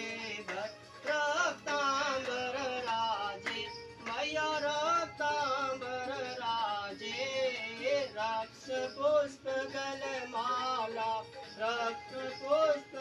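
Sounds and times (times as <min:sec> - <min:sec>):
devotional singing: 0:00.0 - 0:13.0
instrumental music: 0:00.0 - 0:13.0.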